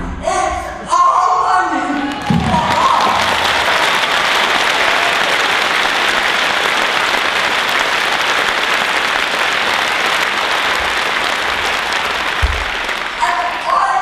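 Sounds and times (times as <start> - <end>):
audience applause: 1.9 - 14.0.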